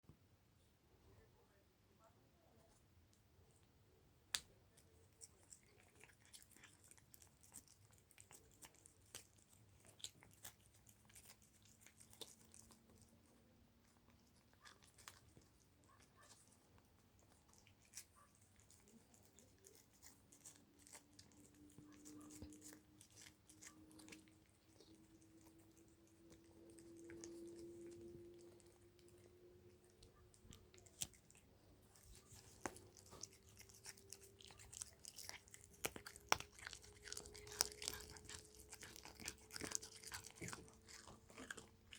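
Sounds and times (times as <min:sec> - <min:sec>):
cat licking wet clicks: 0:04.3 - 0:41.9.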